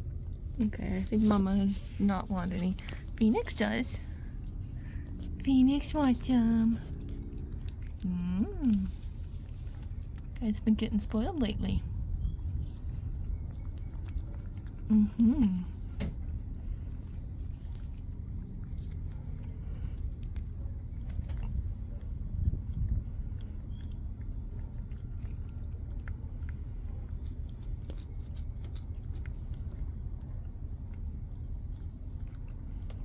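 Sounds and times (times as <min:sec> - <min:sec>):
low rumble: 0:00.0 - 0:33.0
cat tongue licking wet clicks: 0:02.6 - 0:33.0.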